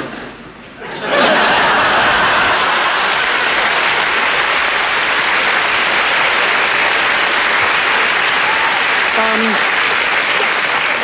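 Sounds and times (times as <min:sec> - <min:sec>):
audience applauding: 0:01.1 - 0:11.0.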